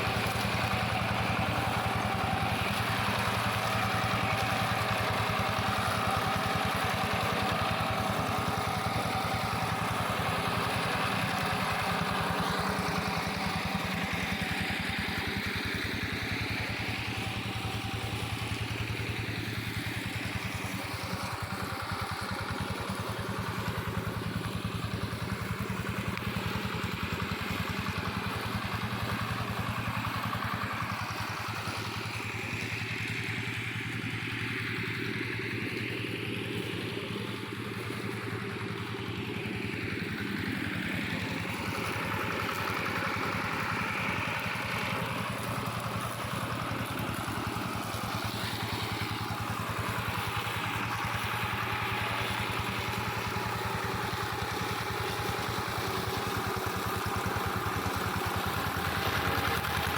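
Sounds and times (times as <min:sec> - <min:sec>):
hand tractor engine running: 0:00.0 - 0:59.9.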